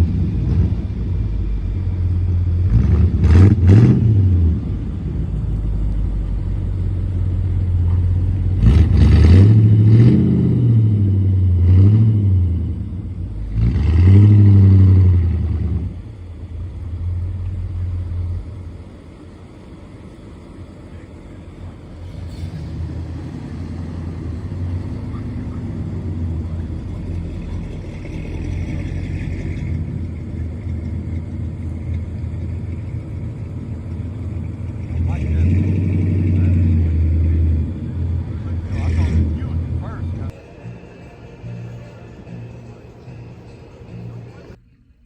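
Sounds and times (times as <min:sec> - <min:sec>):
car engine revving: 0:00.0 - 0:44.6.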